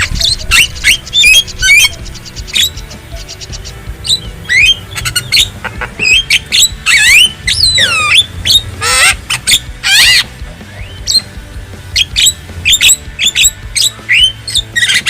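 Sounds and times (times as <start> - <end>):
birds whistling and chattering: 0.0 - 15.0
harsh grating bird calls: 0.0 - 15.0.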